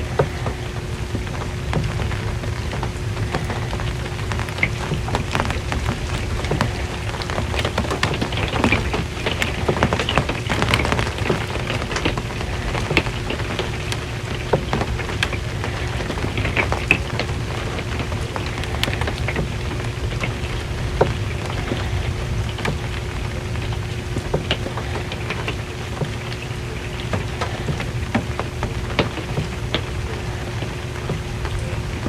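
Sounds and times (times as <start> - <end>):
faint constant hum: 0.0 - 32.0
low steady rumble: 0.0 - 32.0
rain on a metal roof: 0.0 - 32.0.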